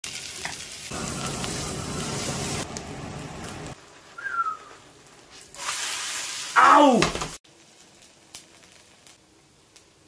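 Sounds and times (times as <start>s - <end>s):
pancakes sizzling in oil: 0.0s - 10.0s.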